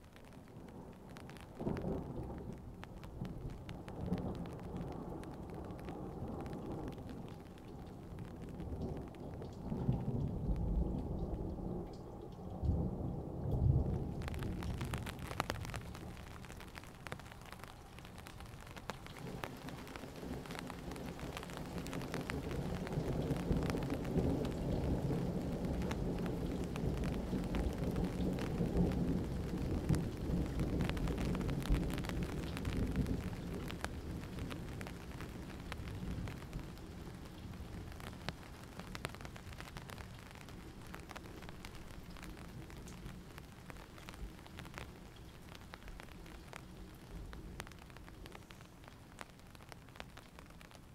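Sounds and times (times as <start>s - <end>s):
raindrops ticking on a surface: 0.0s - 50.9s
steady rain: 0.0s - 50.9s
low rumble of thunder: 0.4s - 48.6s.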